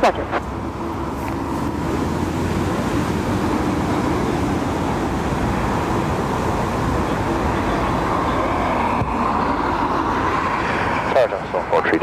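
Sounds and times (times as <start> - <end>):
turboprop engines whining: 0.0 - 12.0
gusty wind buffeting microphone: 0.4 - 12.0.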